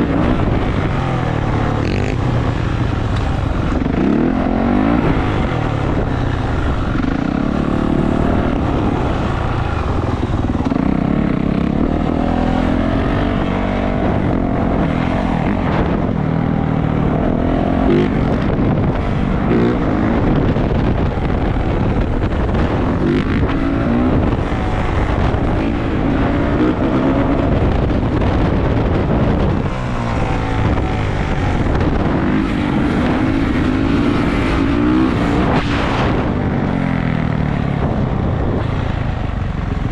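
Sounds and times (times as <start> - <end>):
dirt bike engine revving: 0.0 - 37.4.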